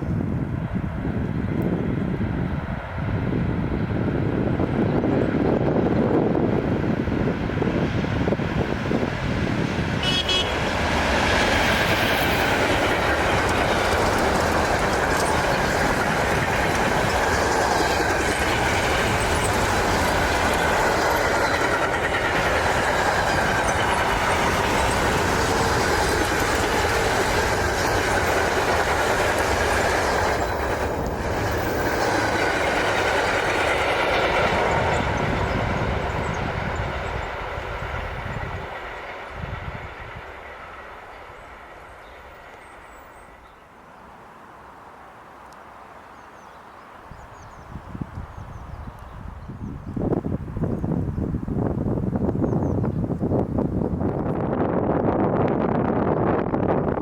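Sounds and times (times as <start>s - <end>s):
freight train wheels rolling: 0.0s - 57.0s.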